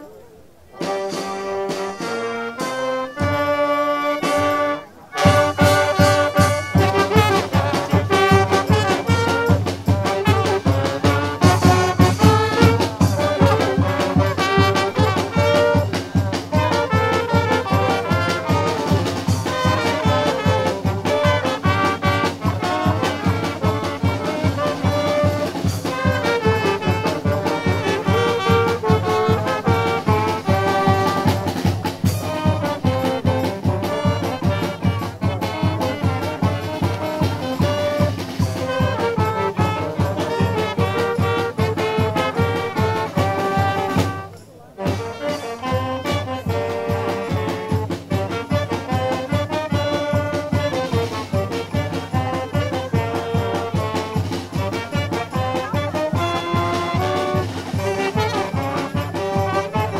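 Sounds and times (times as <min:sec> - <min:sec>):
trumpets and trombones melody: 0:00.0 - 0:59.9
low brass bass line: 0:00.8 - 0:50.4, 0:55.4 - 0:59.9
steady drum beat: 0:00.8 - 0:59.9.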